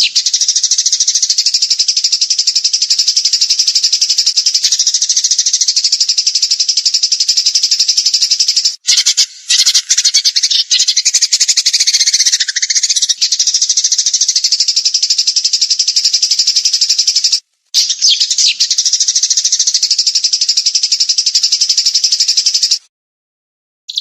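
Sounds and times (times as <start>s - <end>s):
songbird rapid high chirps: 0.0s - 22.9s.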